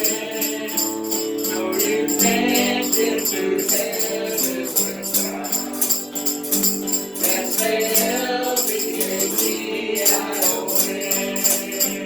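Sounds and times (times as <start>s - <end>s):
gospel singing with accompaniment: 0.0s - 12.0s
shaker beat: 0.0s - 12.0s.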